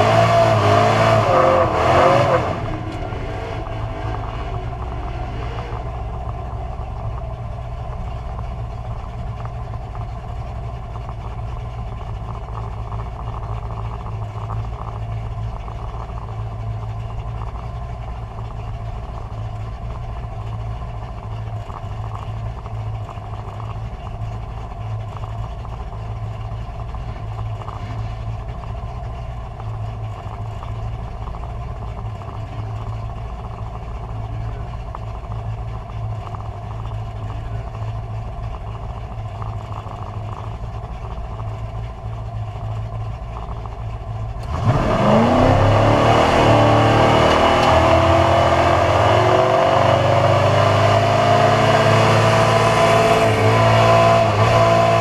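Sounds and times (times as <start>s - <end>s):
drag car engine idling and revving: 0.0s - 55.0s.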